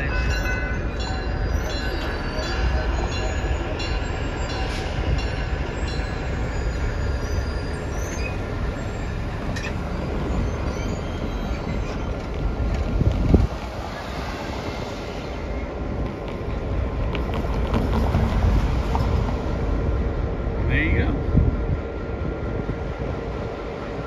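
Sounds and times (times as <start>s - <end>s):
train rumbling slowly on track: 0.0s - 24.0s.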